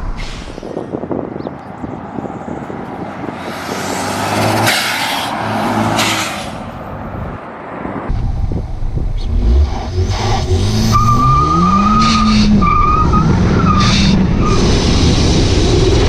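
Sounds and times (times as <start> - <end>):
car engine revving: 0.7 - 7.4, 8.0 - 16.0.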